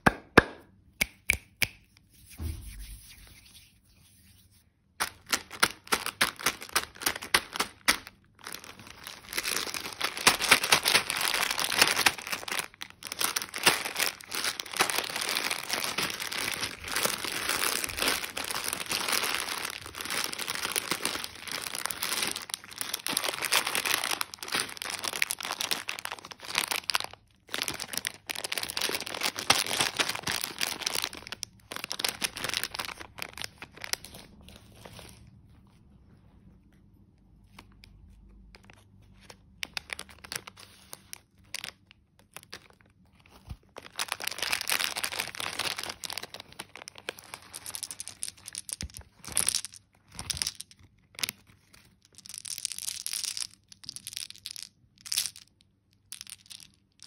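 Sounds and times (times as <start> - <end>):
plastic candy packets crinkling: 5.0 - 35.4, 37.4 - 57.0.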